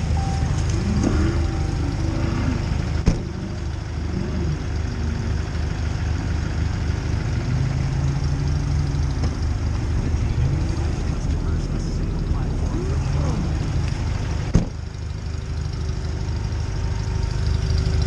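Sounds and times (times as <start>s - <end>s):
garden tractor engine running: 0.0s - 18.0s.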